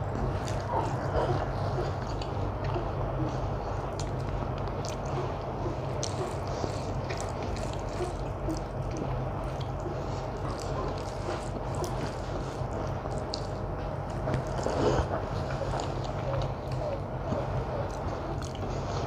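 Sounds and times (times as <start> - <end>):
wet chewing and smacking: 0.0 - 19.0.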